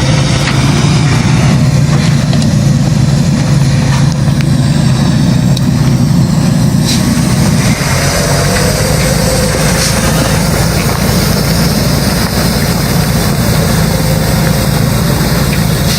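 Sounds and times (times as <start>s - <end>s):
truck engine humming: 0.0s - 15.9s.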